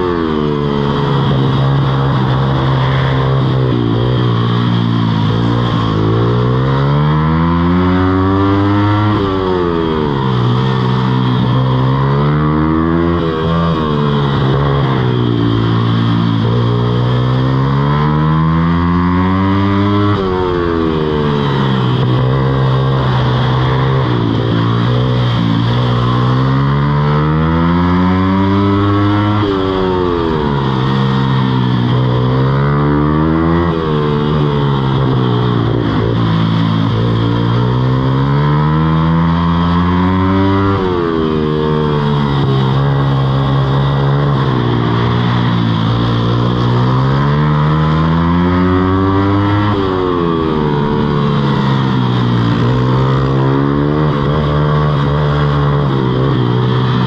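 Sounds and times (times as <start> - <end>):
mini moto engine revving: 0.0 - 57.0.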